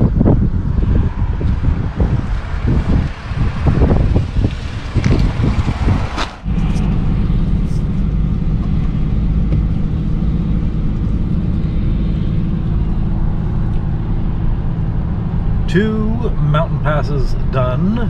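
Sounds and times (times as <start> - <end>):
wind buffeting microphone: 0.0 - 15.7
truck driving drone: 0.0 - 18.0.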